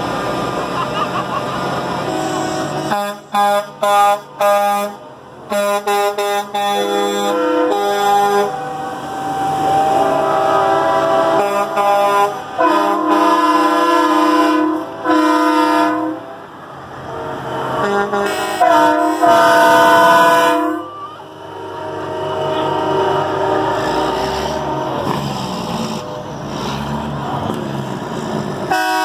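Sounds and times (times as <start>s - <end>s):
truck engines: 0.0s - 29.0s
truck air horns blasting: 1.9s - 26.0s, 28.6s - 29.0s.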